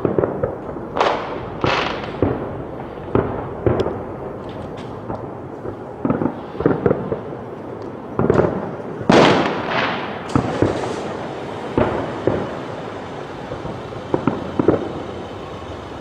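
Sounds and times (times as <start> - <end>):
fireworks exploding: 0.0 - 16.0.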